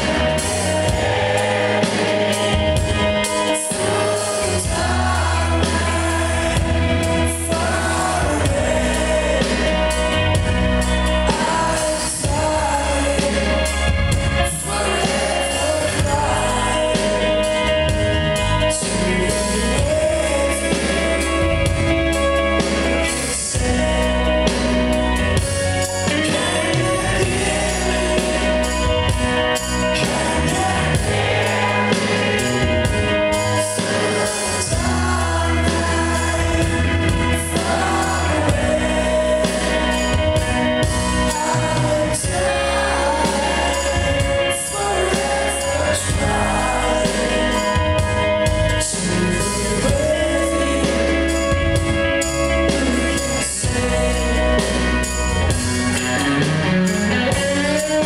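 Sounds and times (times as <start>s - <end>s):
live rock band playing: 0.0s - 58.0s
man singing: 0.0s - 58.0s.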